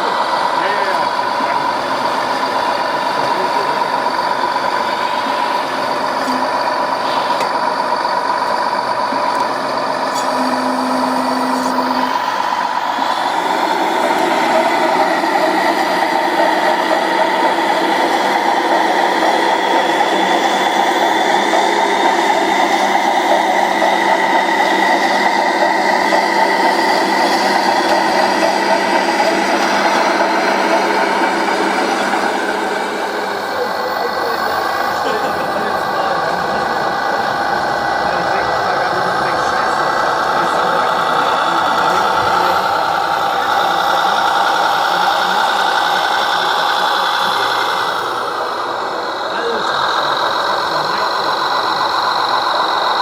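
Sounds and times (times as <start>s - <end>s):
toy truck motor whine: 0.0s - 53.0s.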